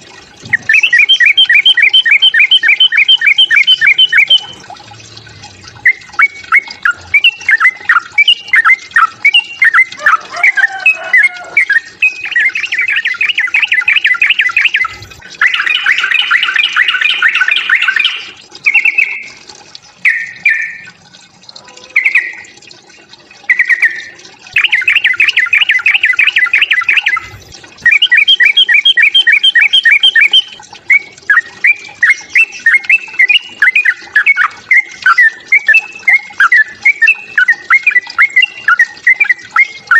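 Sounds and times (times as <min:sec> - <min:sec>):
bird chattering song: 0:00.4 - 0:04.6, 0:05.8 - 0:19.4, 0:20.0 - 0:21.0, 0:22.0 - 0:22.5, 0:23.5 - 0:39.9.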